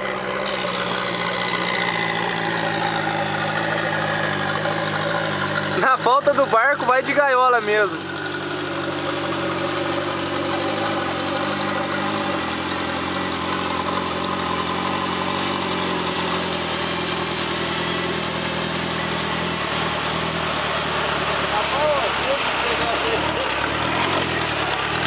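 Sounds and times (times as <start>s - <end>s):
dune buggy engine running: 0.0s - 25.0s
water splashing around wheels: 0.0s - 25.0s.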